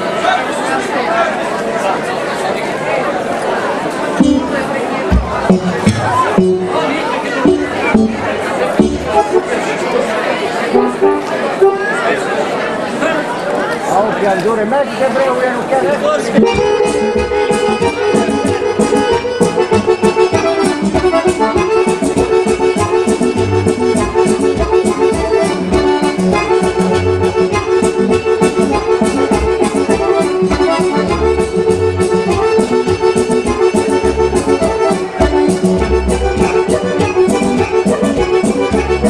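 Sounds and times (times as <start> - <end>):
accordion folk dance music: 3.8 - 12.6, 15.8 - 39.0.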